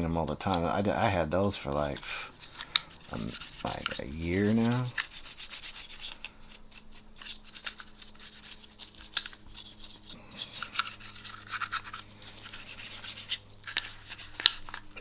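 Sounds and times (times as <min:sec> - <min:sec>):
brush scrubbing metal parts: 0:01.7 - 0:15.0.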